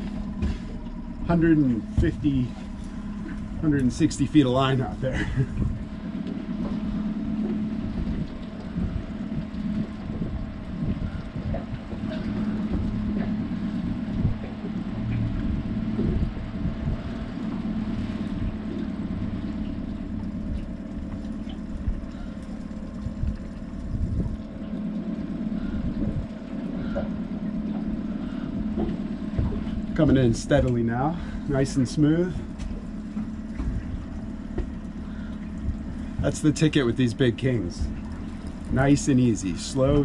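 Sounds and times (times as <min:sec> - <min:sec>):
outboard motor humming: 0:00.0 - 0:40.0
wind rumble on microphone: 0:00.0 - 0:40.0.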